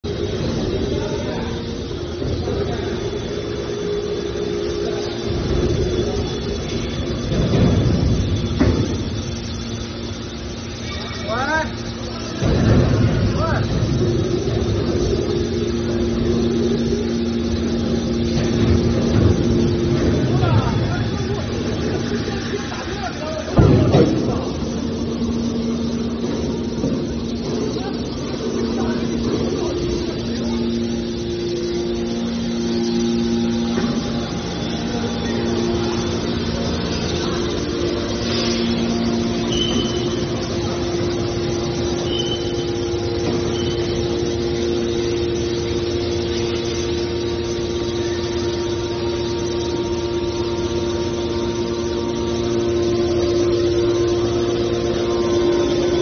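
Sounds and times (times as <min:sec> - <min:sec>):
hydraulic pump motors humming: 0:00.0 - 0:56.0.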